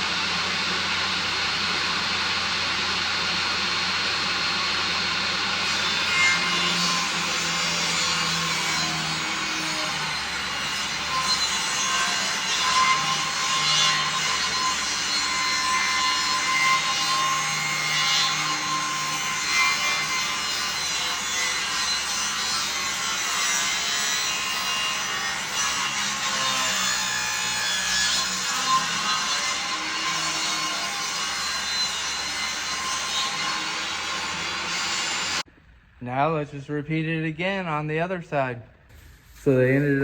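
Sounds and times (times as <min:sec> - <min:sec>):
power saw cutting board: 0:00.0 - 0:35.5, 0:38.9 - 0:40.0.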